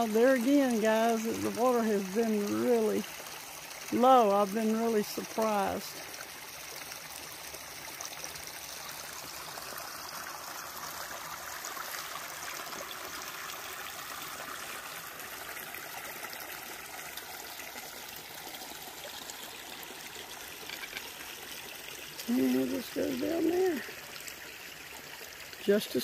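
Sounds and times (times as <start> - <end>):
creek trickling and gurgling: 0.0 - 26.0.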